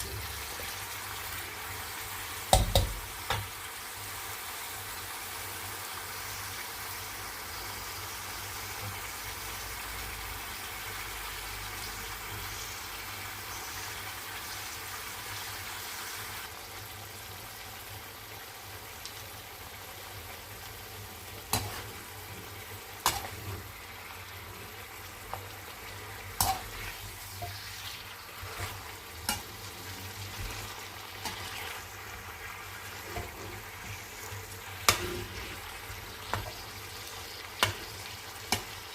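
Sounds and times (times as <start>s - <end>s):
chicken sizzling in oil: 0.0s - 38.9s.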